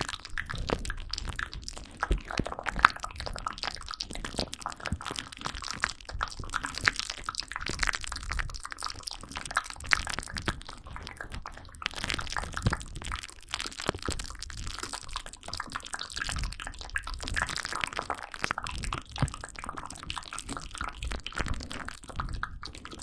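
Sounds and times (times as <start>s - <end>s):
wet mouth clicks and smacks: 0.0s - 23.0s.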